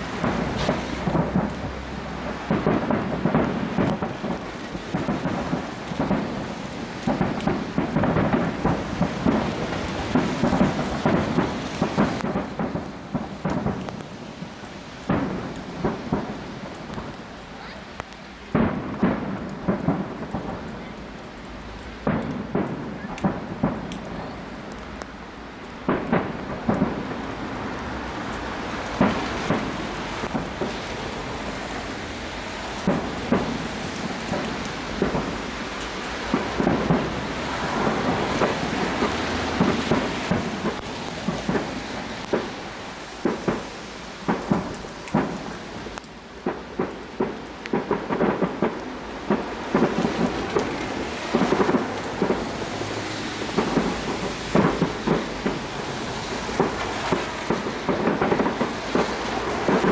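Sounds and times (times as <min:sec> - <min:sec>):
loud fireworks bangs: 0:00.0 - 0:24.7, 0:25.7 - 0:59.9
fireworks booming and crackling: 0:00.0 - 0:59.9.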